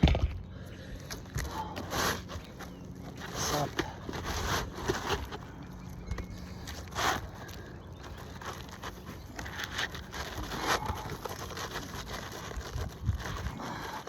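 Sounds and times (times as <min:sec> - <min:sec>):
roofing shingle scraping and rustling: 0:00.0 - 0:14.0.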